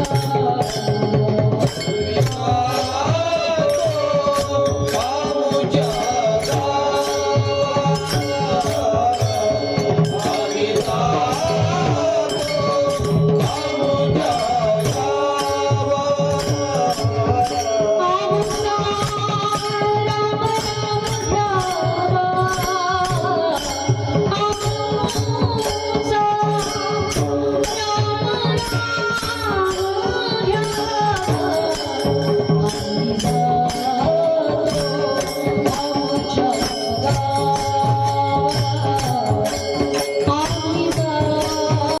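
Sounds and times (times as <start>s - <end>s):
hand drum: 0.0s - 42.0s
jingling rattle percussion: 0.0s - 42.0s
woman singing devotional melody: 0.0s - 42.0s.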